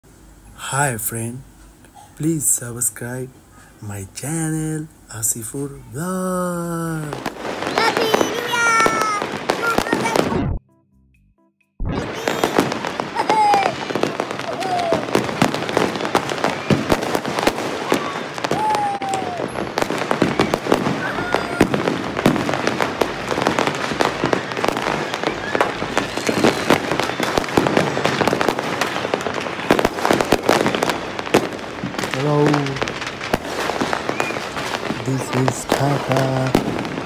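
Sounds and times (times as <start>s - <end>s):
fireworks crackling and banging: 0.7s - 10.6s, 11.9s - 37.0s.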